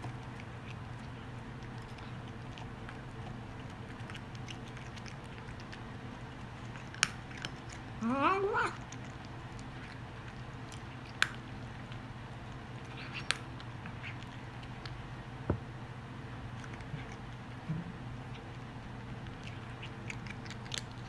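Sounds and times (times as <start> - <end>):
cat eating with crunches: 0.0 - 15.4, 16.2 - 21.0.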